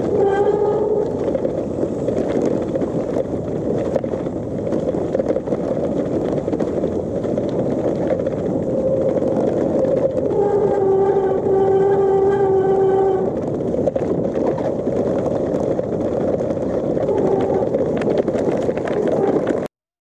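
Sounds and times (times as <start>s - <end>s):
bike tyres rolling on wet path: 0.0s - 19.7s
wind buffeting microphone: 0.0s - 19.7s.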